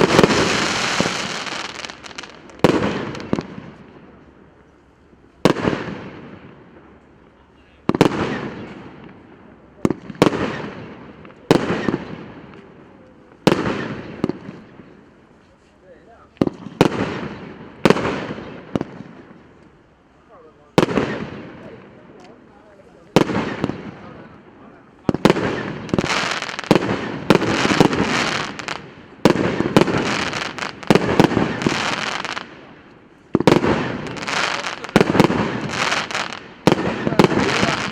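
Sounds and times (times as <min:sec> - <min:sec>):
firework bangs: 0:00.0 - 0:04.1, 0:05.4 - 0:06.6, 0:07.8 - 0:12.7, 0:13.4 - 0:15.0, 0:16.4 - 0:19.4, 0:20.8 - 0:22.0, 0:23.1 - 0:37.9.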